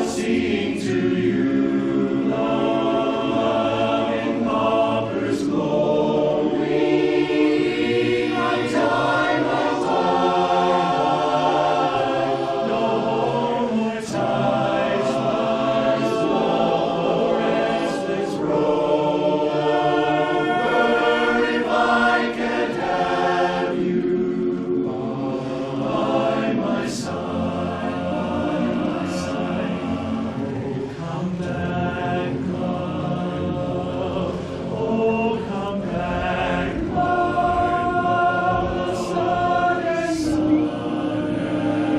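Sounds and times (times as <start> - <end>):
a cappella chorus singing: 0.0 - 41.9.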